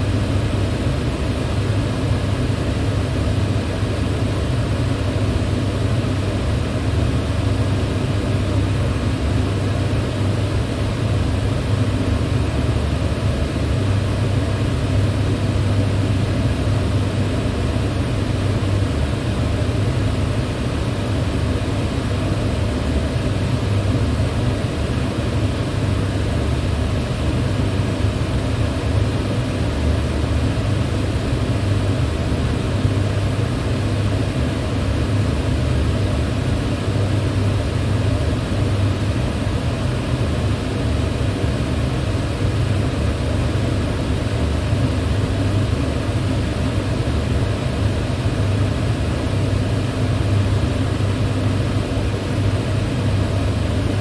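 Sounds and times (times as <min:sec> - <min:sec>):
electric fan humming: 0:00.0 - 0:54.0.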